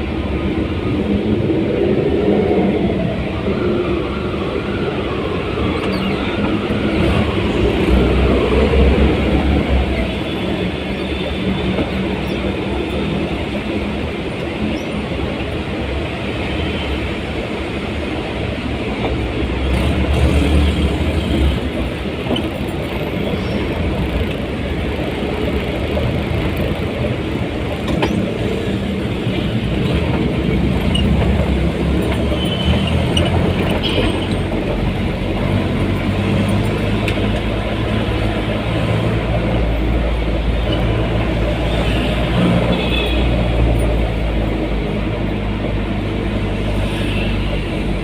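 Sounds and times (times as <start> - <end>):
moving vehicle rumble: 0.0 - 48.0.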